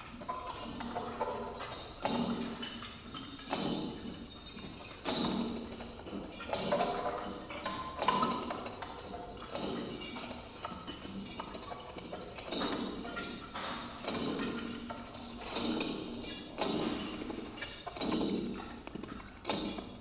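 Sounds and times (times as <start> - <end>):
faint clatter: 0.0 - 20.0.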